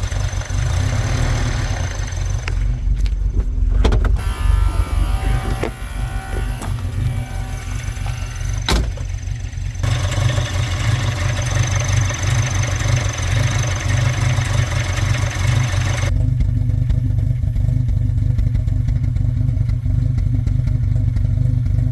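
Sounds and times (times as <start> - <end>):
engine rumbling: 0.0 - 21.9.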